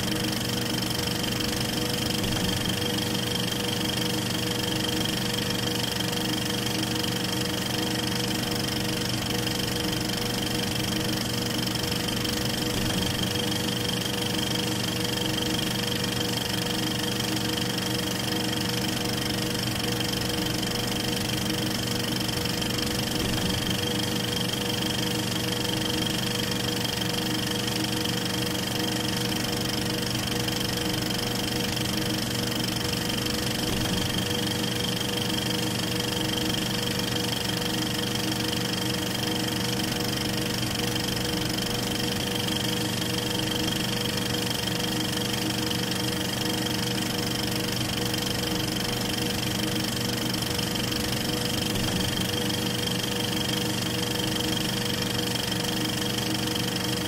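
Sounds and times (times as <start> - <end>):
motor hum: 0.0 - 57.0
movie projector whirring and clattering: 0.0 - 57.0.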